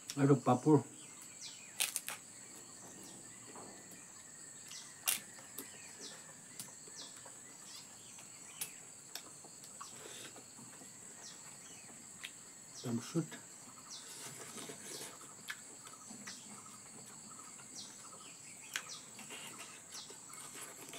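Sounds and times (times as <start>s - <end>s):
insects droning: 0.0s - 20.9s
birds chirping: 0.2s - 20.9s.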